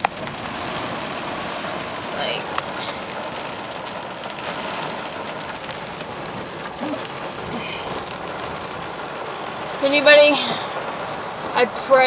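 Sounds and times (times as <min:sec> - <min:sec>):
heavy rain on van roof: 0:00.0 - 0:12.0.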